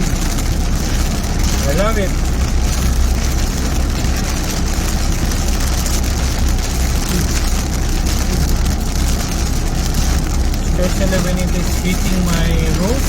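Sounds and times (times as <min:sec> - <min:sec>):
car low rumble: 0:00.0 - 0:13.0
heavy rain drumming on car roof: 0:00.0 - 0:13.0.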